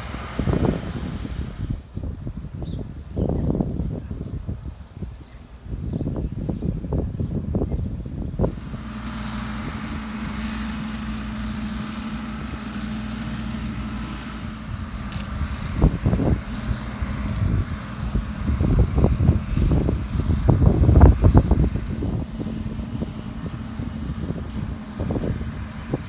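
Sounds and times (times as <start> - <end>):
vehicle engine humming: 0.0 - 2.0, 6.1 - 26.0.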